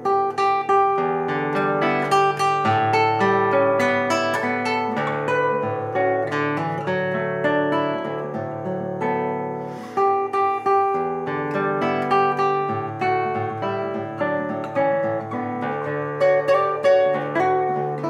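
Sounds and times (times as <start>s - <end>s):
fingerpicked classical guitar: 0.0s - 18.0s.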